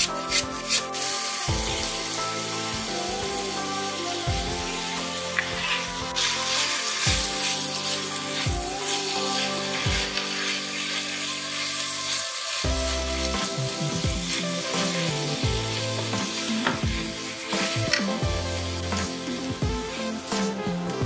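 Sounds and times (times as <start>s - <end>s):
background music with a beat: 0.0s - 21.0s
spatula stirring and scraping: 0.0s - 21.0s
vegetables sizzling in a pan: 0.0s - 21.0s.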